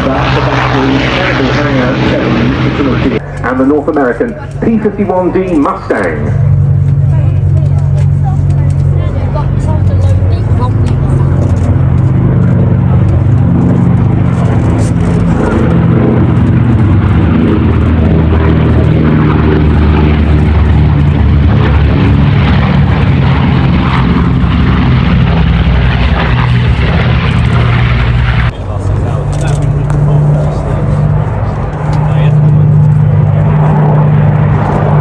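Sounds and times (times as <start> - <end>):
propeller plane piston engine drone: 0.0 - 35.0.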